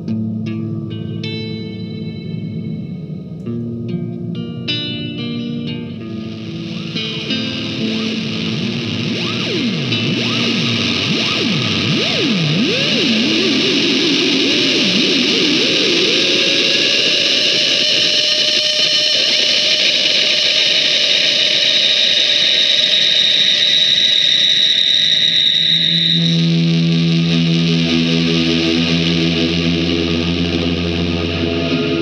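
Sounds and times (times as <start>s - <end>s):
distorted electric guitar drone: 0.0s - 32.0s.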